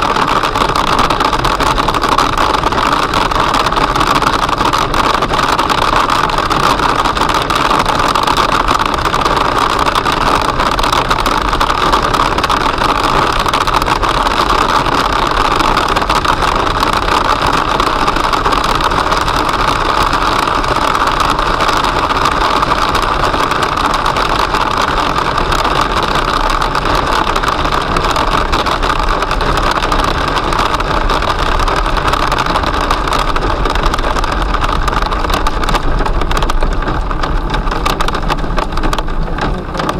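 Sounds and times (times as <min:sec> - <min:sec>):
car road noise: 0:00.0 - 0:39.9
hail and rain drumming on car roof: 0:00.0 - 0:39.9.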